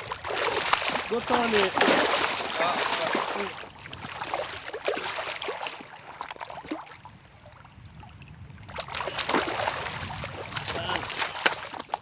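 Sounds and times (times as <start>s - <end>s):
fish thrashing and splashing: 0.0s - 7.0s, 8.6s - 12.0s.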